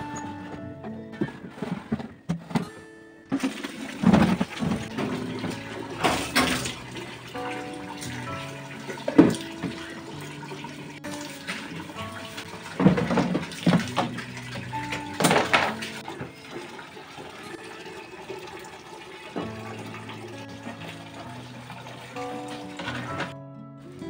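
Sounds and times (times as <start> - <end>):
soft background music: 0.0 - 24.0
water splashing on plastic: 3.3 - 23.4.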